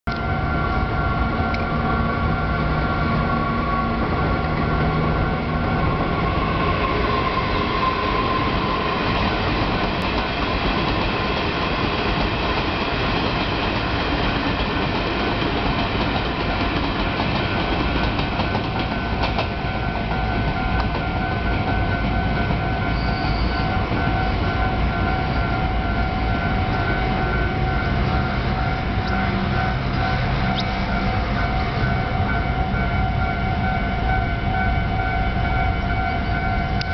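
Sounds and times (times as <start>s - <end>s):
crossing warning bell ringing: 0.1s - 36.9s
train wheels rumbling on rails: 0.1s - 36.9s.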